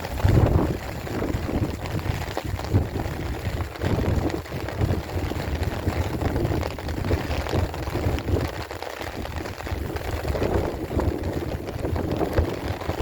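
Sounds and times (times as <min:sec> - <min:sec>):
rain falling: 0:00.0 - 0:13.0
wind buffeting microphone: 0:00.0 - 0:13.0.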